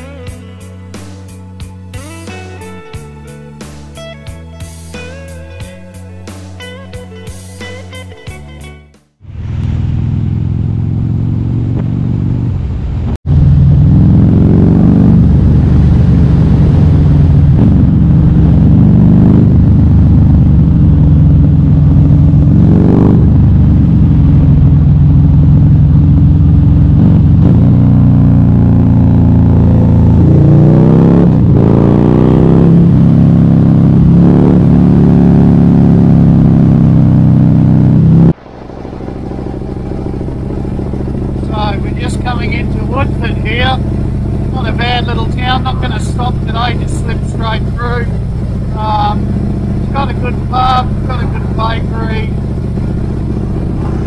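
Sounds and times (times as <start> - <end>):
motorcycle engine running: 9.2 - 54.0.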